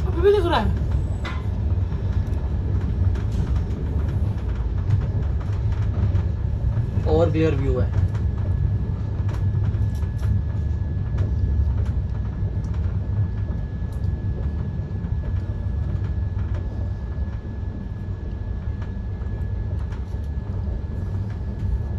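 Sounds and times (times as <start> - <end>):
train rumbling: 0.0 - 21.9.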